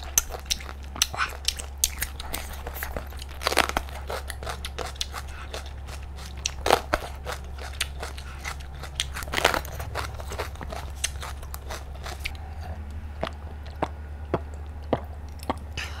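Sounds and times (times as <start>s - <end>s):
wet mouth clicks: 0.0s - 15.7s
crunchy bites and chewing: 0.0s - 15.8s.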